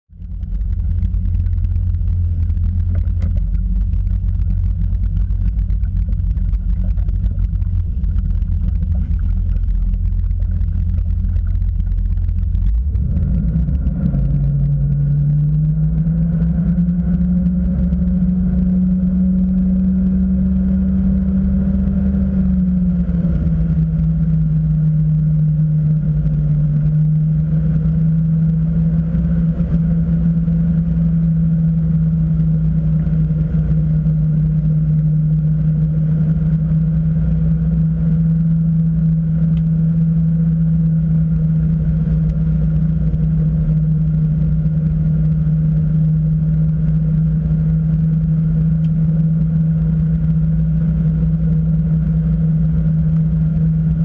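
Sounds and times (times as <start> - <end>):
boat engine rumbling: 0.0 - 54.0.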